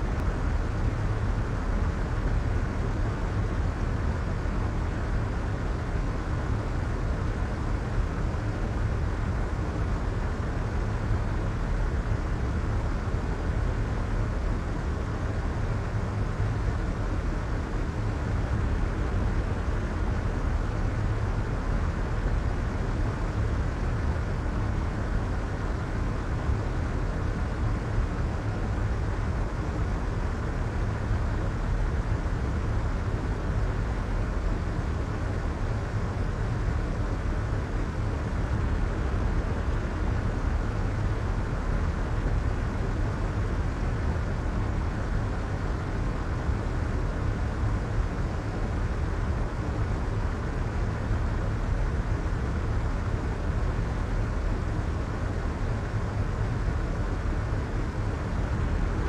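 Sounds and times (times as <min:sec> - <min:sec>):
muffled white noise hiss: 0:00.0 - 0:59.0.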